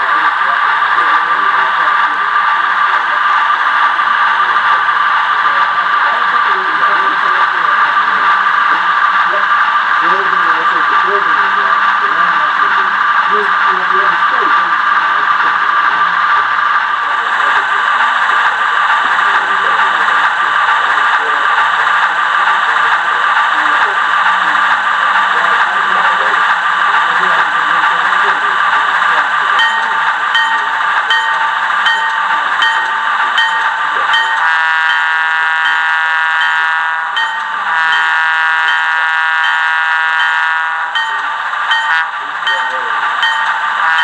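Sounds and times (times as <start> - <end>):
hissing diesel idle: 0.0 - 40.2
constant high whine: 0.0 - 44.0
model locomotive motor whirring: 0.0 - 44.0.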